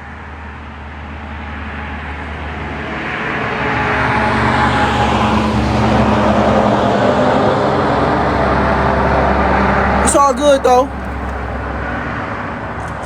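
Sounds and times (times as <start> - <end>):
road noise: 0.1 - 13.0.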